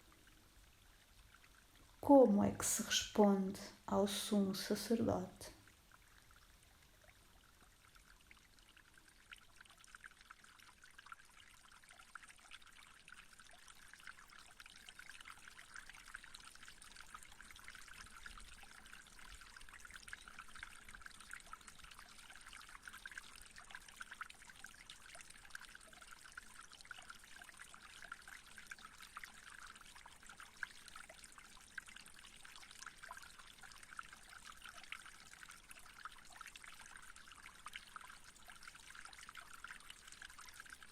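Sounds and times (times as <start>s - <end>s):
trickling water: 0.0s - 40.9s.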